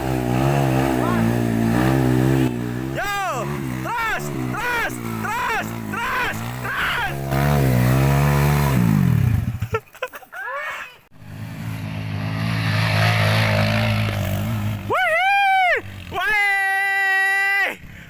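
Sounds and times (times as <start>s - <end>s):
motorcycle engine revving: 0.0s - 9.8s, 11.1s - 16.4s.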